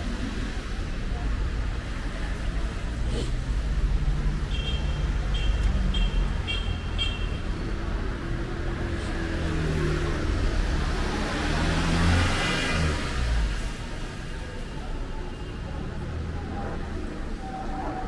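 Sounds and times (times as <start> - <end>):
vehicle engines rumbling: 0.0 - 18.0.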